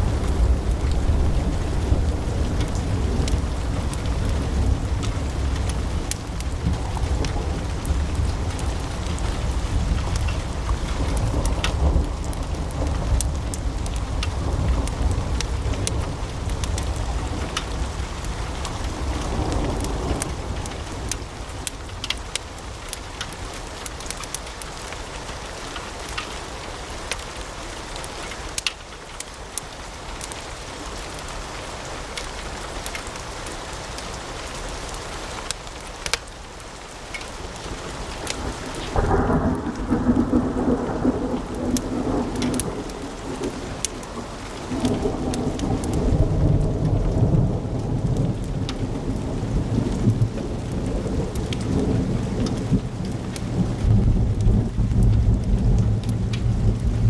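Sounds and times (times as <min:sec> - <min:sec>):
wood fire crackling and popping: 0:00.0 - 0:31.3, 0:32.1 - 0:47.2, 0:47.9 - 0:57.0.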